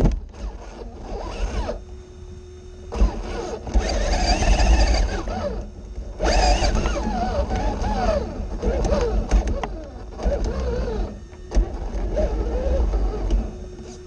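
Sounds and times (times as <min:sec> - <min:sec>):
electric motor and gears whining: 0:00.0 - 0:14.0
faint steady hum: 0:00.0 - 0:14.0.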